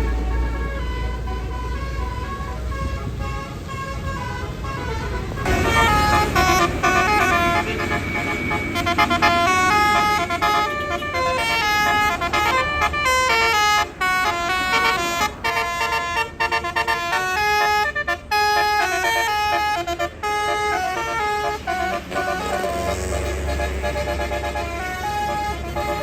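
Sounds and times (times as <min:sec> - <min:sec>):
bus multi-tone horn tune: 0:00.0 - 0:26.0.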